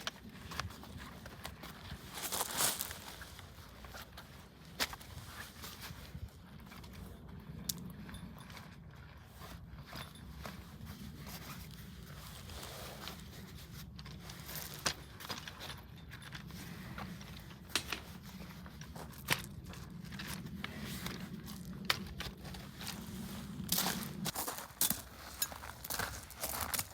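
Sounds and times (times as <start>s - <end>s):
rustling handling noise: 0.0s - 7.2s, 8.0s - 26.9s.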